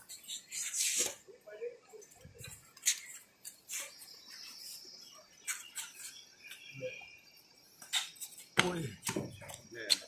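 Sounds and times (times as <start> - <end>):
faint chirping: 0.0 - 10.0.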